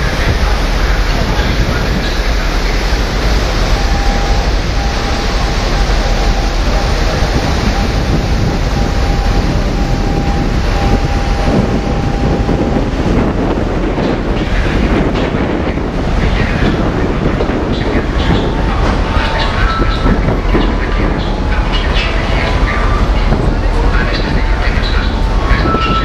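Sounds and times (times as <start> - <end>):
low rumble: 0.0 - 26.0
wind and sea rushing: 0.0 - 26.0
wind buffeting microphone: 0.0 - 26.0.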